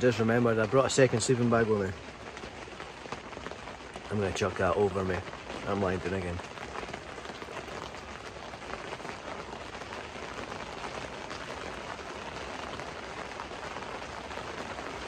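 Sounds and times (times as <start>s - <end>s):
rain pattering on tent fabric: 0.0s - 15.0s.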